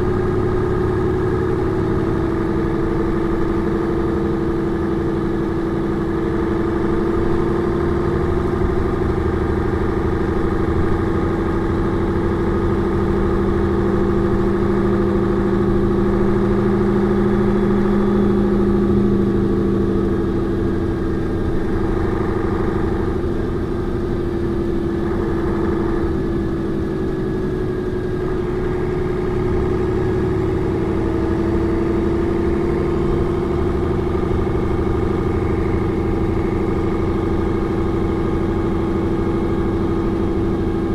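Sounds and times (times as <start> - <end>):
bus engine humming: 0.0 - 40.9.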